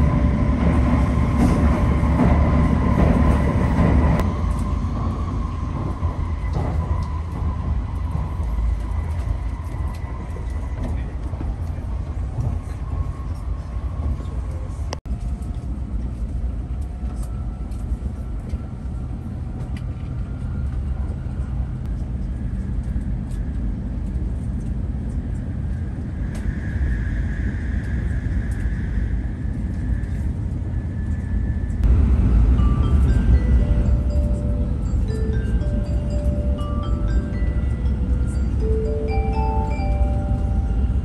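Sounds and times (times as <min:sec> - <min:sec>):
train running at speed: 0:00.0 - 0:41.0.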